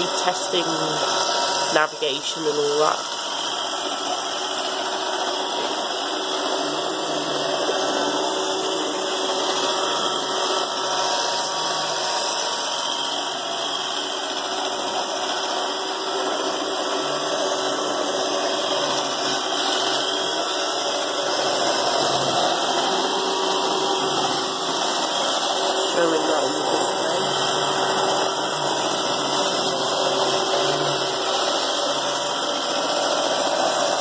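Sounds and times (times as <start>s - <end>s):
robot vacuum whirring: 0.0s - 34.0s.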